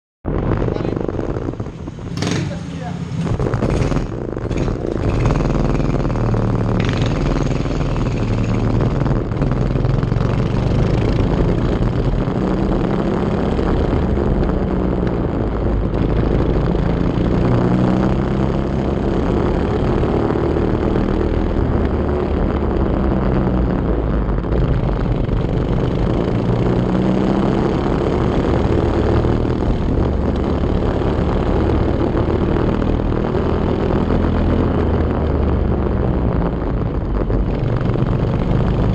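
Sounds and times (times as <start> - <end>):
go-kart engine revving: 0.3 - 38.9.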